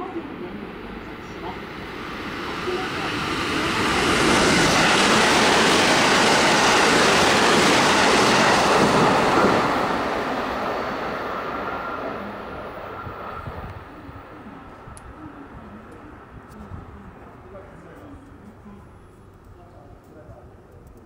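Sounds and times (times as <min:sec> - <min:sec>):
train passing at speed: 0:00.0 - 0:20.5.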